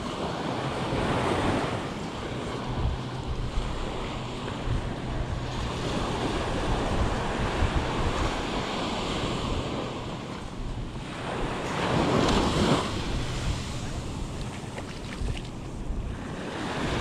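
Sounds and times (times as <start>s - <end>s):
small waves breaking on sand: 0.0s - 17.0s
wind buffeting microphone: 0.0s - 17.0s.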